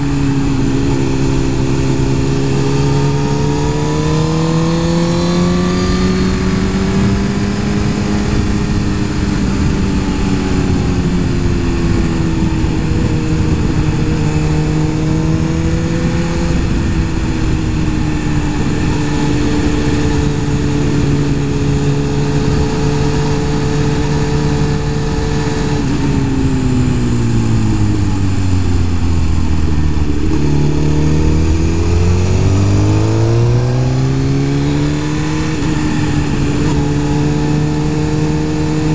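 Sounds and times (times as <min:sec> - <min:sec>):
constant rushing noise: 0:00.0 - 0:38.9
motorcycle engine running: 0:00.0 - 0:38.9.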